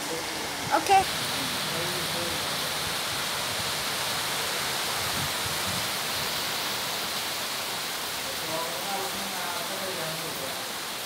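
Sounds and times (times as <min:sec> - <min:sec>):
rain falling on foliage: 0:00.0 - 0:11.0.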